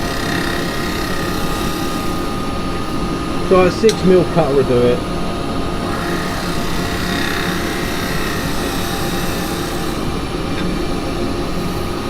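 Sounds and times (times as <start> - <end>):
cutter hissing on wood: 0.0 - 12.0
woodturning lathe running: 0.0 - 12.0.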